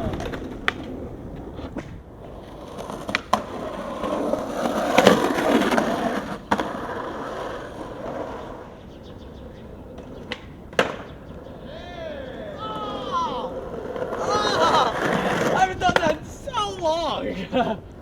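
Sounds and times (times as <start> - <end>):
skateboard clacks: 0.0 - 18.0
skateboard rolling on pavement: 0.0 - 18.0.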